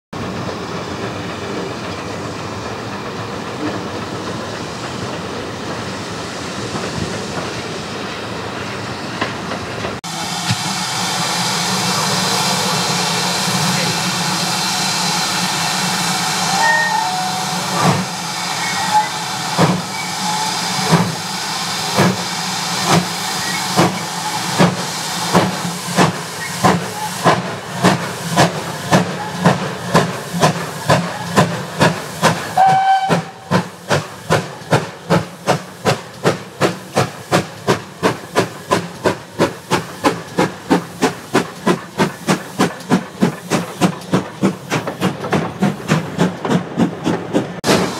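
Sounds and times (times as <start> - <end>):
steam hissing: 0.6 - 47.9.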